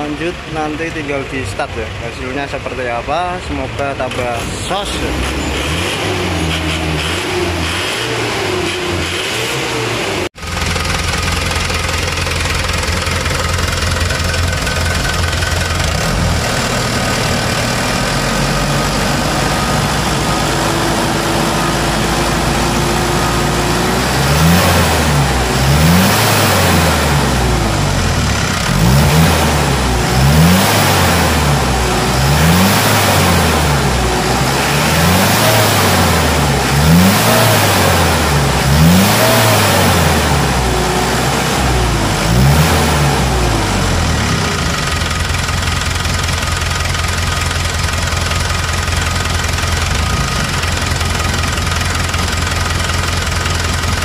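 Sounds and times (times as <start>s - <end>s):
diesel engine idling: 0.0s - 54.0s
diesel engine revving: 0.0s - 54.0s.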